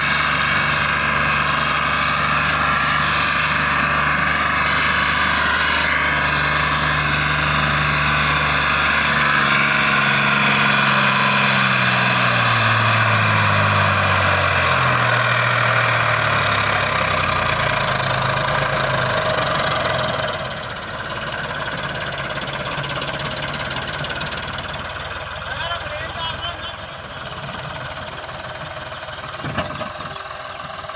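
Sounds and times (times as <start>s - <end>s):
tractor engine running hard: 0.0s - 30.9s.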